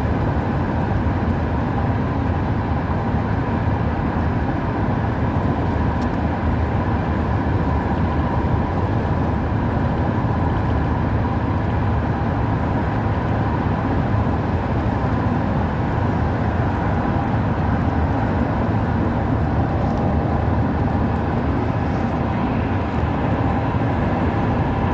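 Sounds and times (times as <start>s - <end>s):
car road and engine noise: 0.0s - 24.9s.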